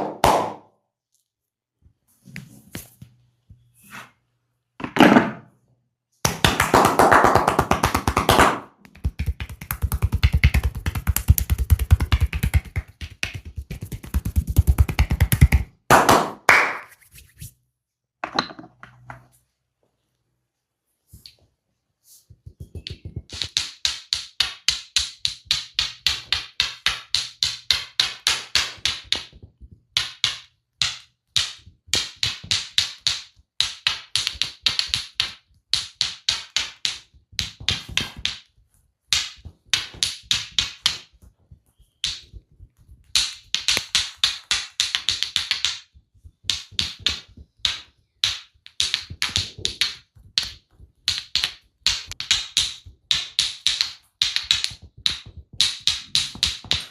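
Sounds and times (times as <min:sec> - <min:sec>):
percussive massage slapping taps: 0:00.0 - 0:00.7, 0:06.2 - 0:17.0, 0:22.3 - 0:56.9.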